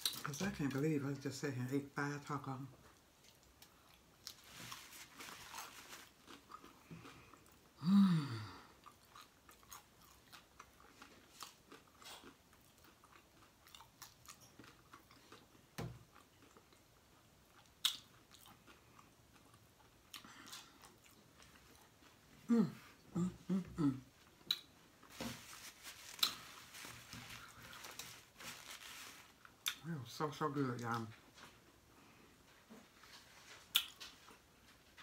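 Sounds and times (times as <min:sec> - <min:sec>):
person chewing: 0:02.9 - 0:29.8, 0:33.1 - 0:34.4.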